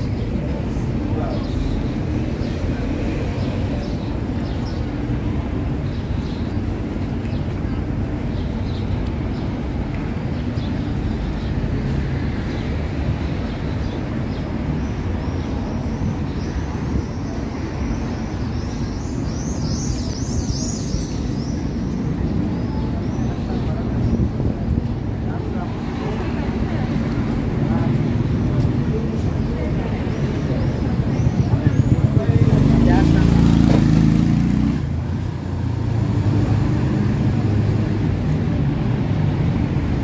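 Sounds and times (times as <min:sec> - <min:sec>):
birds chirping: 0:00.0 - 0:40.0
street traffic: 0:00.0 - 0:40.0.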